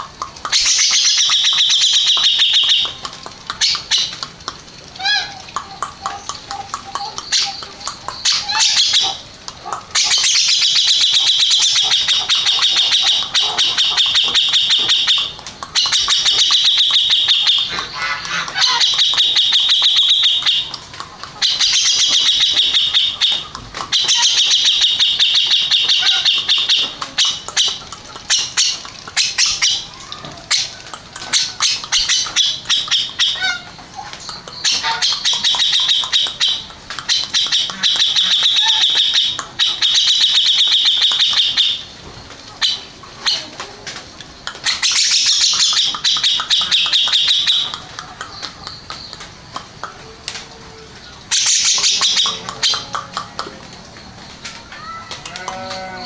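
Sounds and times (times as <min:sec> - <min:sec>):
bird chattering song: 0:00.0 - 0:04.4, 0:05.0 - 0:41.9, 0:44.4 - 0:55.0.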